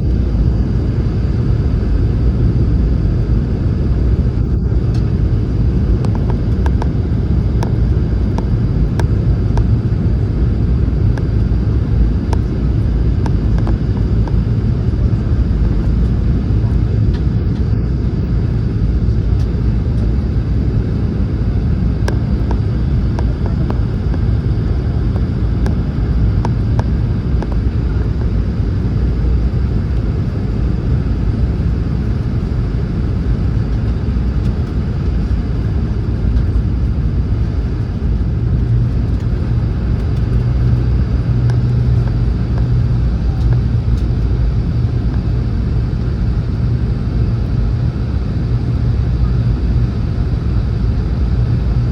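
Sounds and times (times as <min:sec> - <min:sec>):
airflow and engine noise: 0:00.0 - 0:51.9
airliner cabin rumble: 0:00.0 - 0:51.9.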